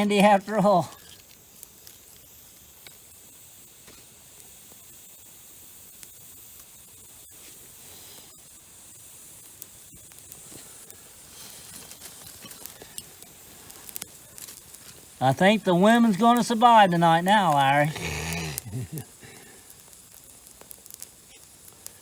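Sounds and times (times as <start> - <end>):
campfire hissing and crackling: 0.0 - 22.0.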